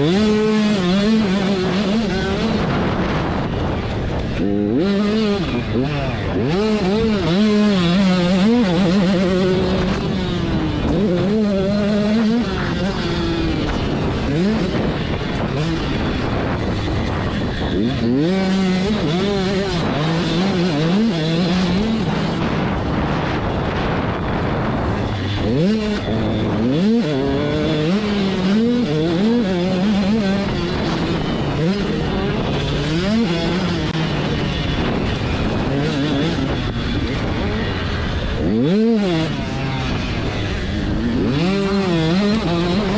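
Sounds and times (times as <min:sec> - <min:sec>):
dirt bike engines revving: 0:00.0 - 0:42.9.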